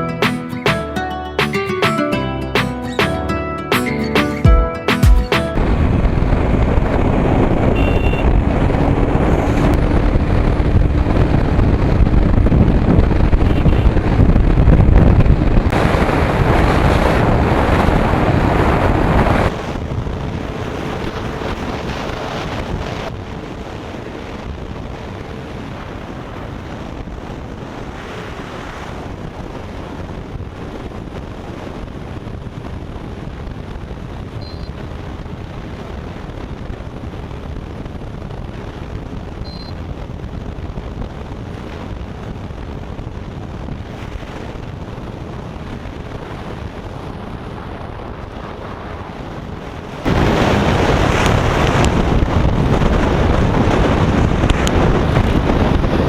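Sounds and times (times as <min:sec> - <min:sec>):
faint motorcycle engine drone: 0:05.6 - 0:56.0
wind buffeting microphone: 0:05.6 - 0:56.0.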